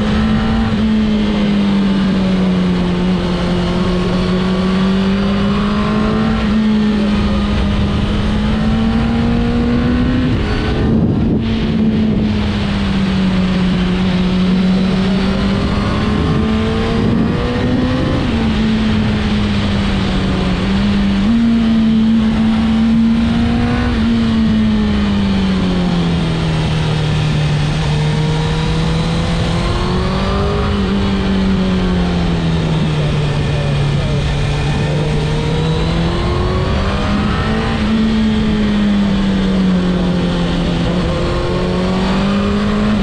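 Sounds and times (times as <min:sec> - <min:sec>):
motorcycle engine cruising: 0:00.0 - 0:43.0
rushing wind: 0:00.0 - 0:43.0.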